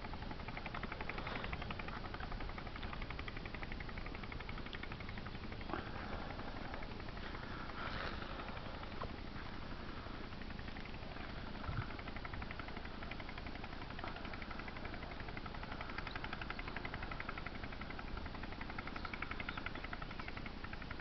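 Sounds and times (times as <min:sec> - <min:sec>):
fishing reel clicking: 0:00.1 - 0:21.0.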